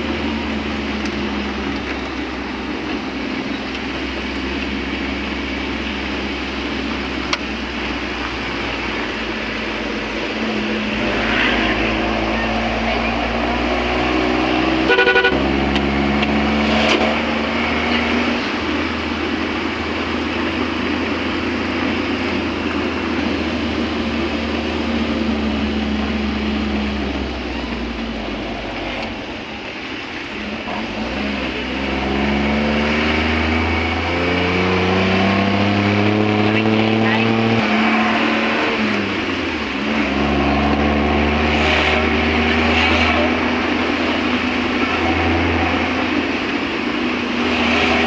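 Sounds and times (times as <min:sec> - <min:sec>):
road noise: 0:00.0 - 0:48.0
vehicle engine running: 0:00.0 - 0:48.0.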